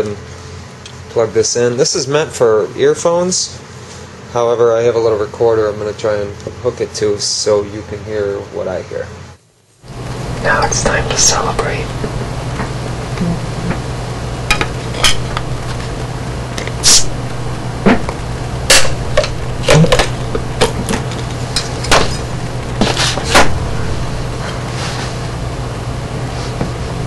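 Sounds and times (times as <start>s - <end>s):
amplifier hum and hiss: 0.0s - 27.0s.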